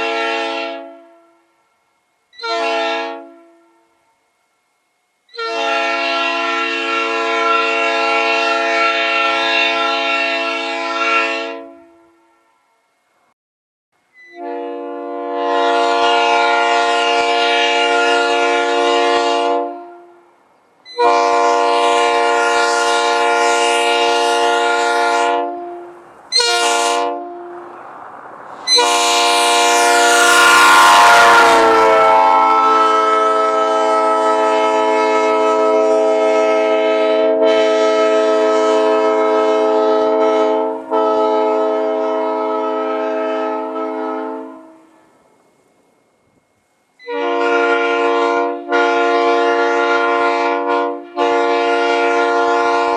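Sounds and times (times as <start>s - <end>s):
locomotive air horn blasts: 0.0s - 1.6s, 2.3s - 4.3s, 5.3s - 12.7s, 14.2s - 45.2s, 47.0s - 52.9s.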